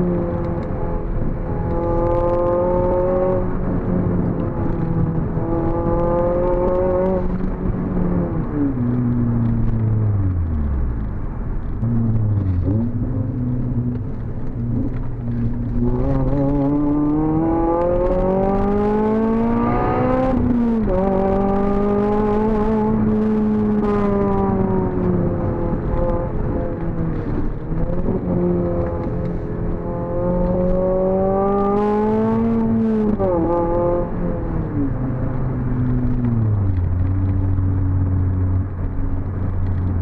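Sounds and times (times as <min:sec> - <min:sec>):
car engine revving through gears: 0:00.0 - 0:40.0.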